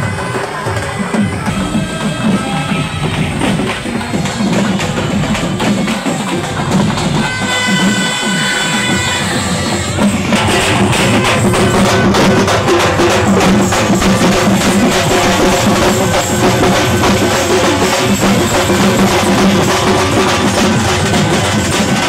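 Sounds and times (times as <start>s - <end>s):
drummers beating large drums: 0.0s - 22.0s.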